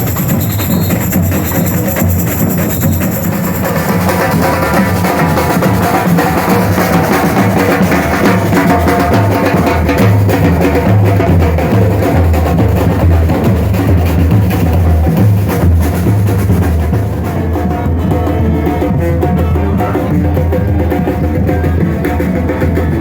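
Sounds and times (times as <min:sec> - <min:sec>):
drum-heavy music with bass: 0:00.0 - 0:23.0.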